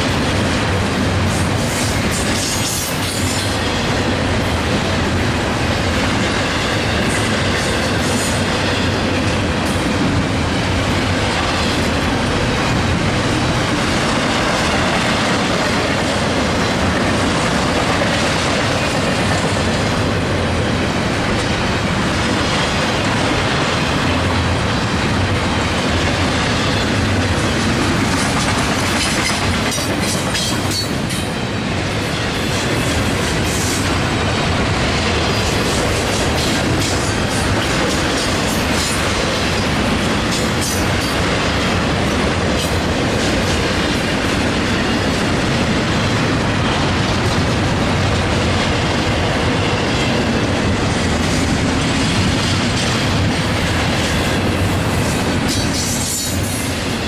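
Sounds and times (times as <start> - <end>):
freight train wheels rolling: 0.0 - 57.0.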